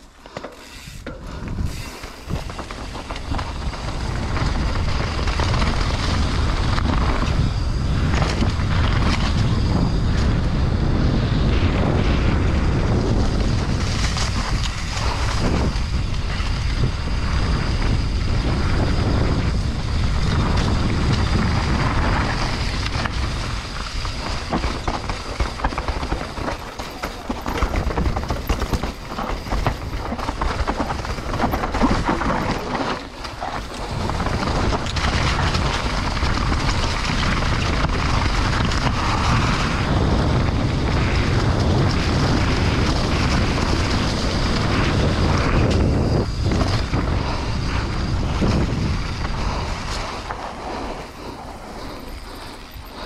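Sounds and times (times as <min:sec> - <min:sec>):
bike knocking and rattling: 0:00.0 - 0:53.0
bike tyres rolling over dirt: 0:00.0 - 0:53.0
wind on microphone: 0:00.8 - 0:53.0.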